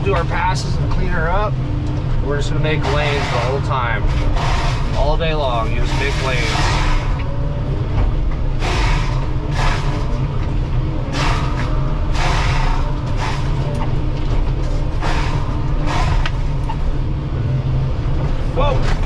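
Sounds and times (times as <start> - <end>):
mulcher grinding wood: 0.0 - 17.5
excavator engine running: 0.0 - 19.0.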